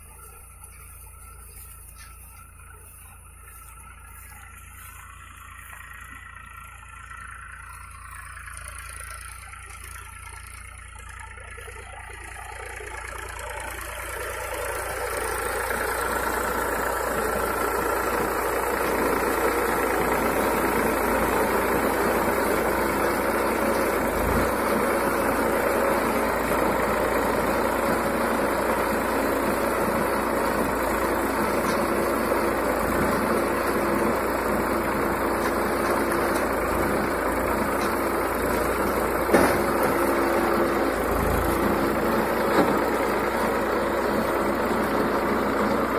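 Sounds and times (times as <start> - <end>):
round baler working: 0.0 - 45.9
tractor engine running: 0.0 - 45.9.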